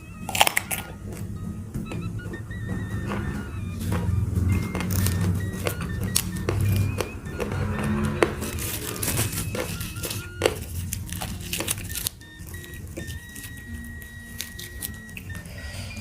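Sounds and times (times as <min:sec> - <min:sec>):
person chewing and crunching food: 0:00.0 - 0:16.0.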